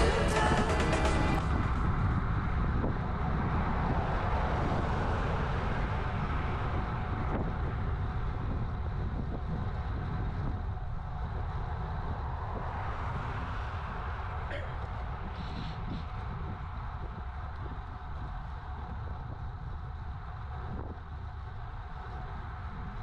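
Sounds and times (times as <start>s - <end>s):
wind rush on microphone: 0.0s - 23.0s
bicycle tyres rolling on asphalt: 1.4s - 23.0s.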